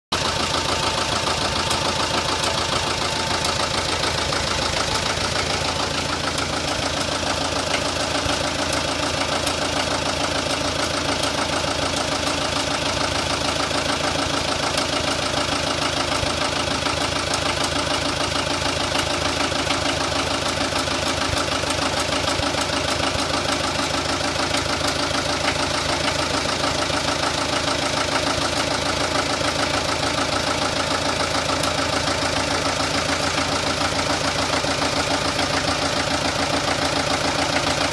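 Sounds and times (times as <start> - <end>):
diesel tractor engine idling: 0.1 - 37.9.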